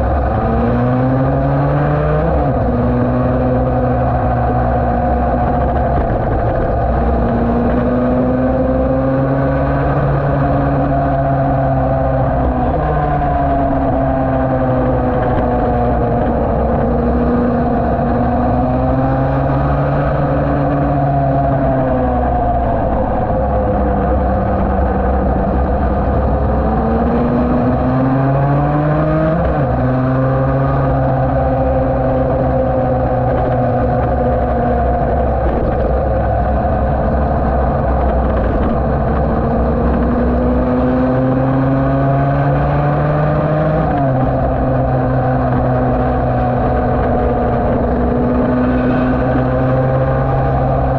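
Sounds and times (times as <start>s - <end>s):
racing motorcycle engine revving: 0.0s - 50.9s.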